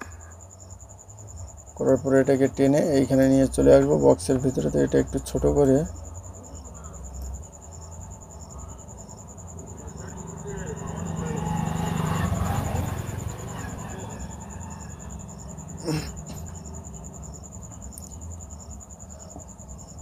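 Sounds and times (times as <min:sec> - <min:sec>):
insect trill: 0:00.0 - 0:20.0.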